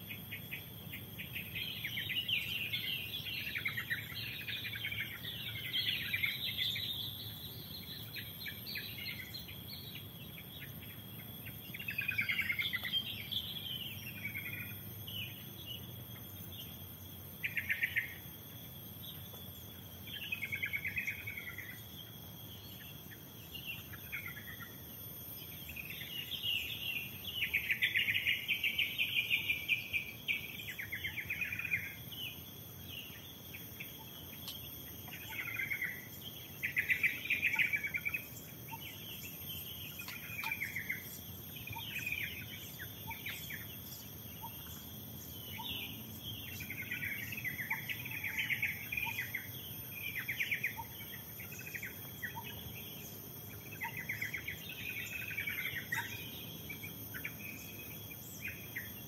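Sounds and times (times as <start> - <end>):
high-pitched insect drone: 0.0 - 59.0
birds chirping and singing: 0.1 - 18.3, 19.9 - 59.0.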